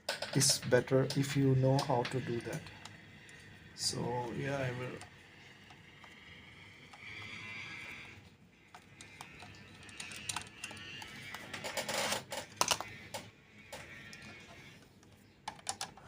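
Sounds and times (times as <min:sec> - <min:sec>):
quiet background music: 0:00.0 - 0:16.0.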